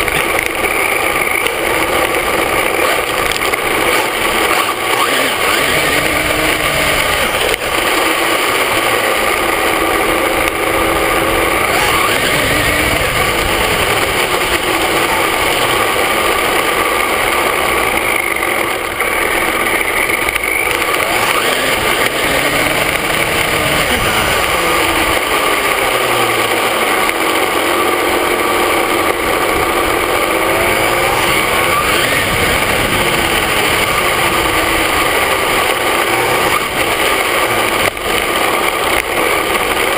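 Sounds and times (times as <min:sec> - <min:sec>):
electric motor whine: 0:00.0 - 0:39.9
tyre and road noise: 0:00.0 - 0:39.9.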